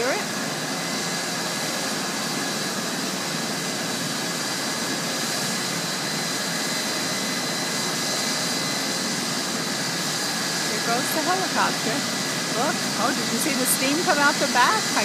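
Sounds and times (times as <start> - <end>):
helicopter engine and rotor running: 0.0 - 15.0.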